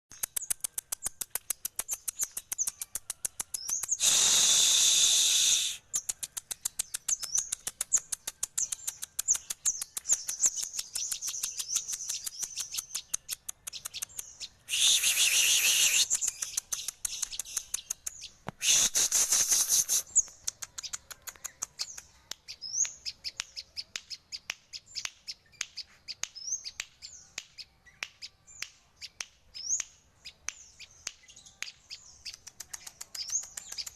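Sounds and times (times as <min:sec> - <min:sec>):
bird ticking chips and notes: 0:00.1 - 0:04.6, 0:05.8 - 0:18.5, 0:19.1 - 0:33.9.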